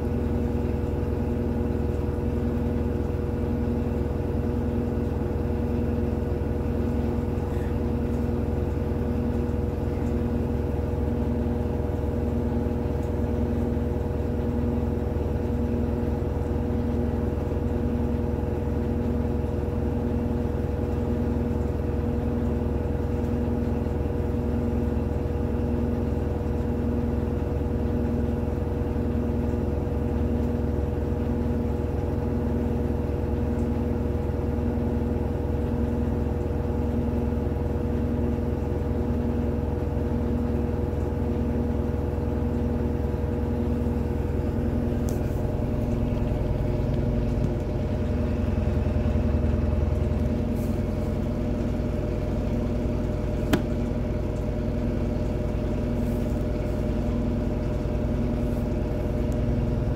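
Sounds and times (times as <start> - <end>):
washing machine spin cycle: 0.0 - 59.9.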